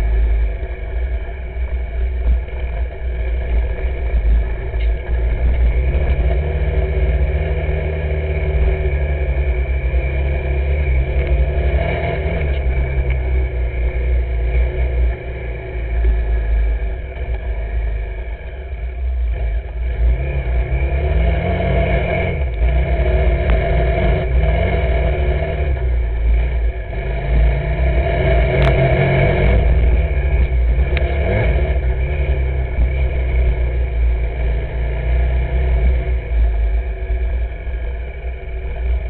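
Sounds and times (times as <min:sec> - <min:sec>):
heavy low rumble: 0:00.0 - 0:39.0
vehicle engine running: 0:00.0 - 0:39.0.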